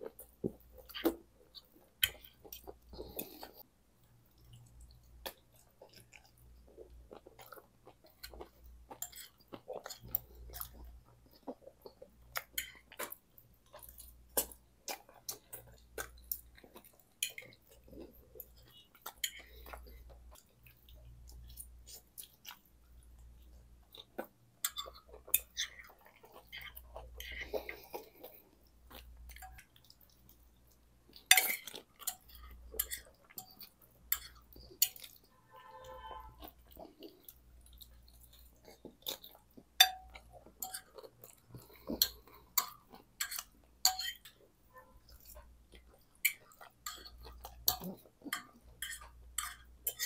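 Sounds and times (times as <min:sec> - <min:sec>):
chewing and wet mouth sounds: 0:00.0 - 0:50.0.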